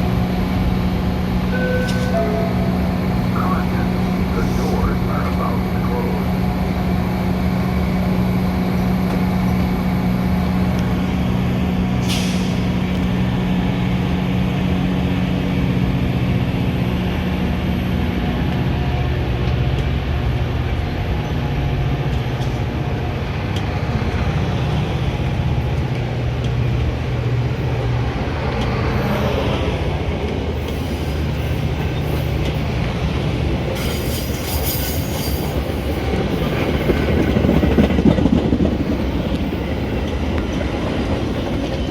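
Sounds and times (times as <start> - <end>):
train running on rails: 0.0 - 41.9.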